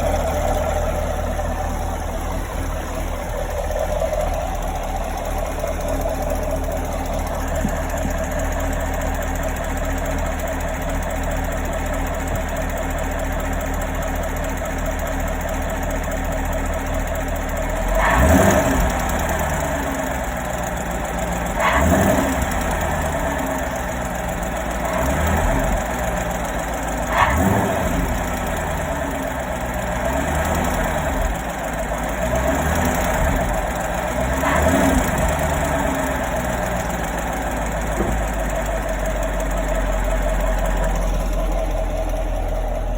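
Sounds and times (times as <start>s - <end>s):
car engine idling with ticking: 0.0s - 42.9s
engine revving: 0.0s - 42.9s.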